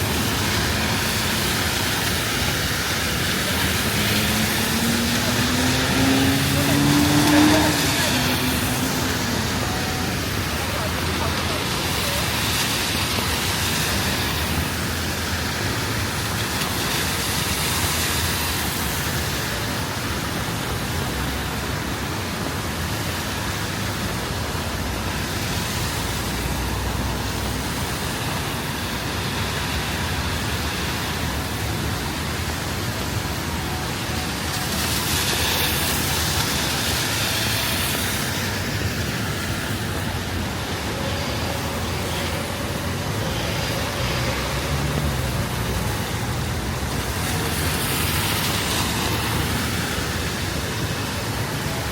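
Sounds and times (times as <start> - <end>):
steady rain: 0.0 - 51.9
vehicles passing on wet road: 0.0 - 51.9.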